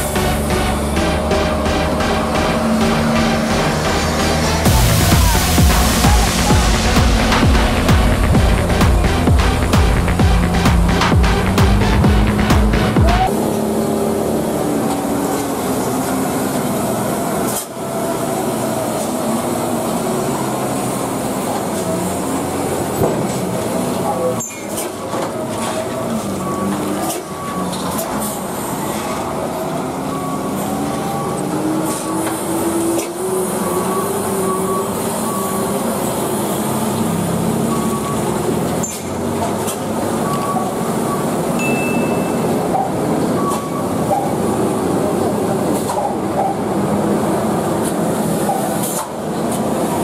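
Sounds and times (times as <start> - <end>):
diesel truck engines labouring: 0.0 - 50.0.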